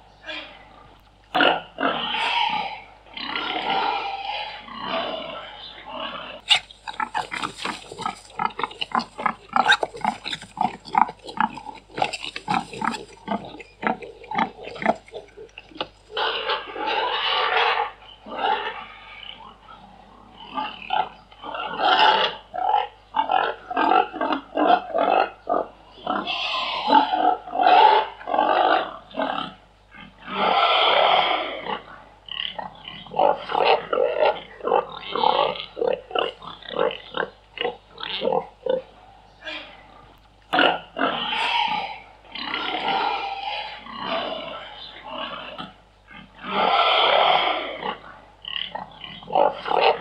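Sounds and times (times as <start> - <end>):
pigs grunting: 0.0 - 50.0.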